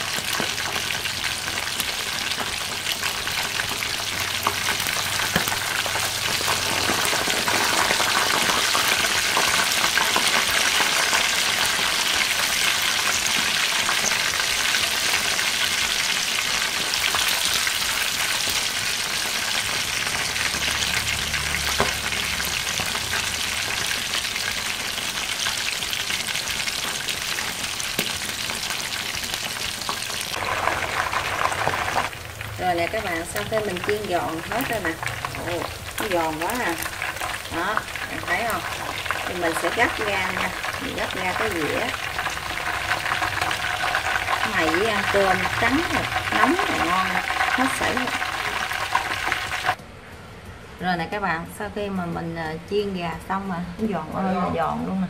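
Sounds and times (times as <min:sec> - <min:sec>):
chicken deep-frying in oil: 0:00.0 - 0:49.8.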